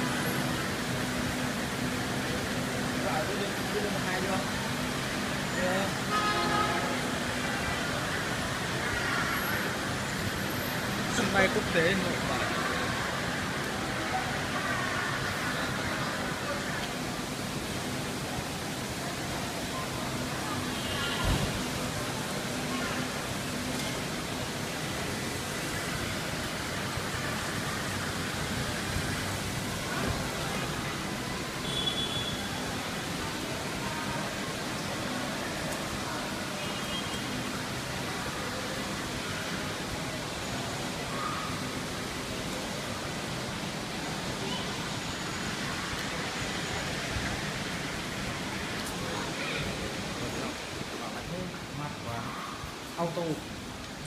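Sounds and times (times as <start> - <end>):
airport terminal background noise: 0.0 - 54.0
traffic roar: 0.0 - 54.0.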